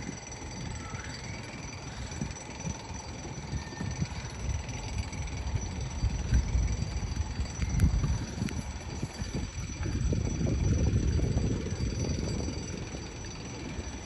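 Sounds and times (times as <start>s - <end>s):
drawbridge machinery rumbling: 0.0s - 14.0s.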